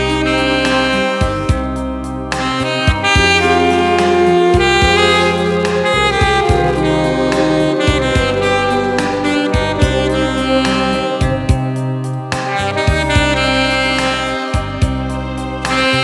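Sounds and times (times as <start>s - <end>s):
alto saxophone slow melody: 0.0s - 16.0s
backing track with bass and beat: 0.0s - 16.0s.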